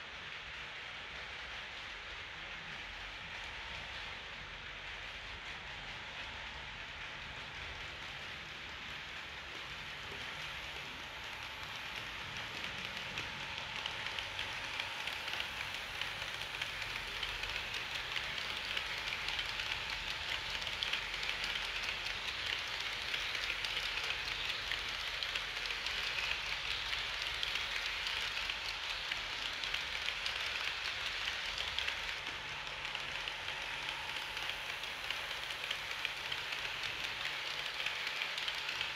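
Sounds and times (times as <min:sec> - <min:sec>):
model train wheels rattling on rails: 0:00.0 - 0:38.9.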